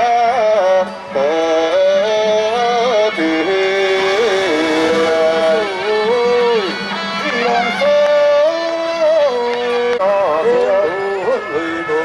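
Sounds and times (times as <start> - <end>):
nasal reed horn melody: 0.0 - 12.0
low steady drone: 0.5 - 12.0.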